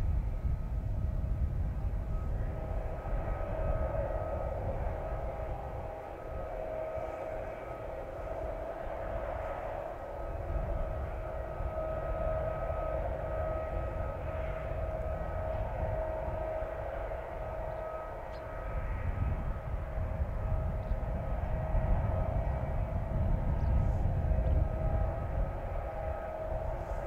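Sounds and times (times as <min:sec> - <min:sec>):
aircraft whine: 0:00.0 - 0:27.0
low rumble: 0:00.0 - 0:27.0.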